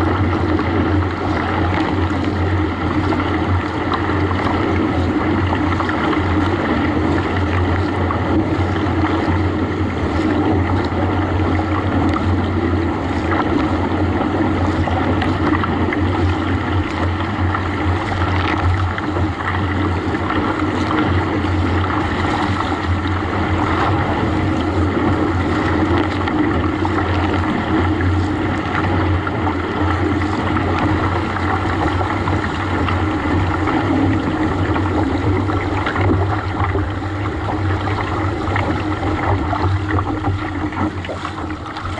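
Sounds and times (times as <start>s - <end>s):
steady low drone: 0.0s - 41.9s
water splashing along kayak hull: 0.0s - 41.9s
wind on microphone: 0.0s - 41.9s.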